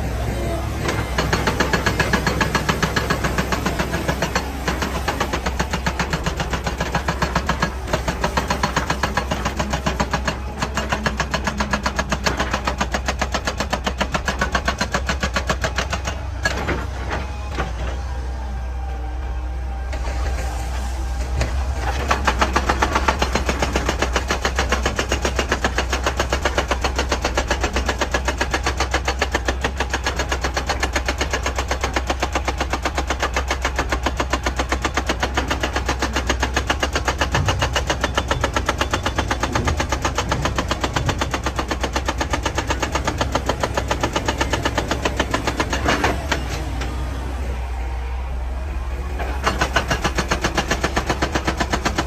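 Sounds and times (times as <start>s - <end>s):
hydraulic breaker hammering rock: 0.0s - 18.2s, 19.9s - 47.9s, 48.8s - 52.0s
diesel engine humming: 0.0s - 52.0s.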